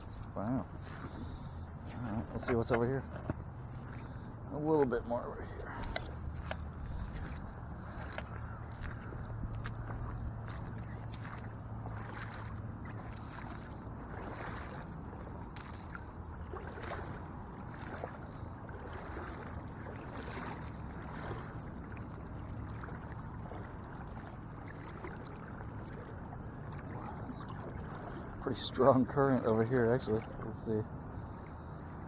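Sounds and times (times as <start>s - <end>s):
steady rush of water: 0.0s - 32.0s
water sloshing around walking legs: 0.0s - 32.0s.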